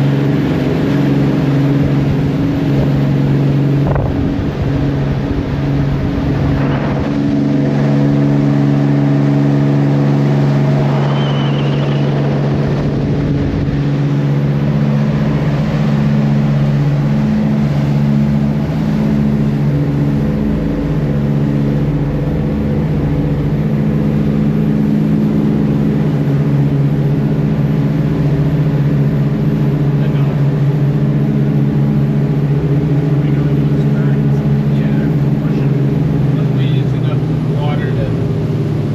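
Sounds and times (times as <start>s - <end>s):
boat engines droning: 0.0s - 38.9s.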